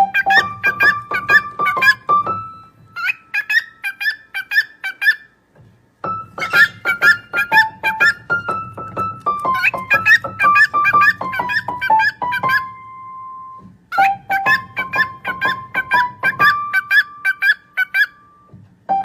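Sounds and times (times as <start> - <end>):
quick high keyboard melody: 0.0 - 2.9, 6.0 - 19.0.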